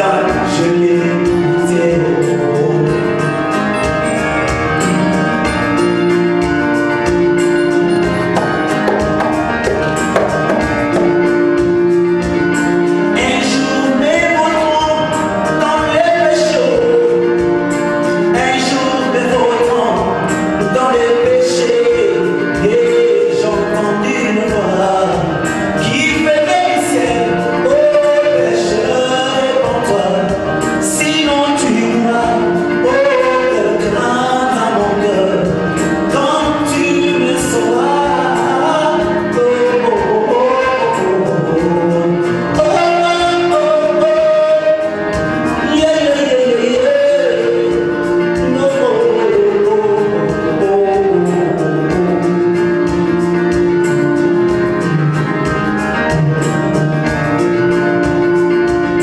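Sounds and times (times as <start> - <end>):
man singing slow melody: 0.0 - 6.5, 13.1 - 55.2
held keyboard chords: 0.0 - 59.0.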